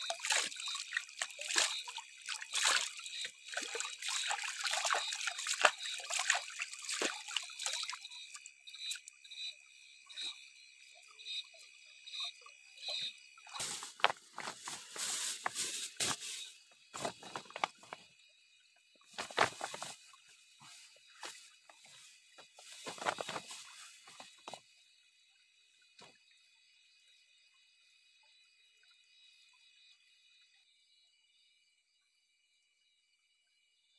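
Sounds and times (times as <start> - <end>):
insects calling: 0.0 - 33.9
repeated insect chirps: 0.0 - 33.9.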